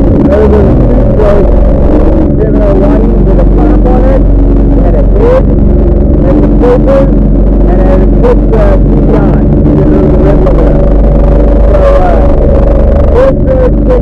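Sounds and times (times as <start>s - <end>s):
jet ski engine running: 0.0s - 14.0s.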